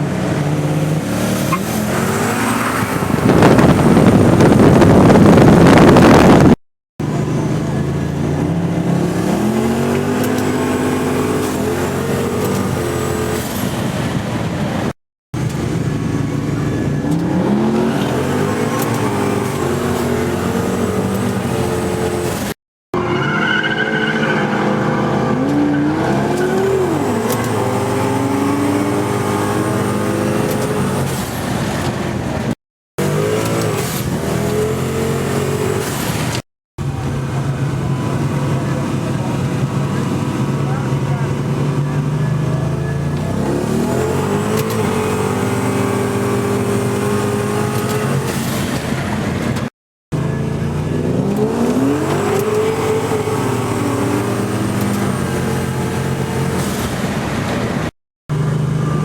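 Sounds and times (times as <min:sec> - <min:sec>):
car engine revving and accelerating: 0:00.0 - 0:59.0.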